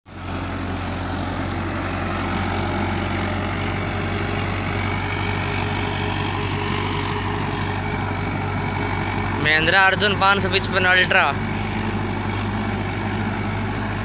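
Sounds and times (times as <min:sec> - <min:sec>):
tractor diesel engine under load: 0:00.1 - 0:14.0.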